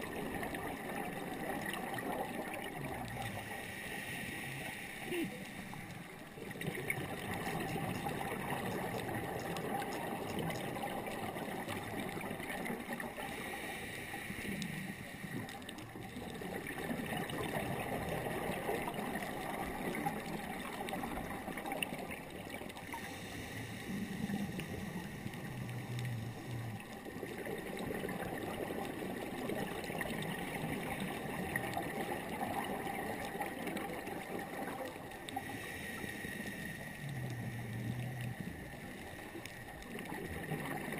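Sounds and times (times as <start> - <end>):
muffled underwater hiss and rumble: 0.0 - 40.9.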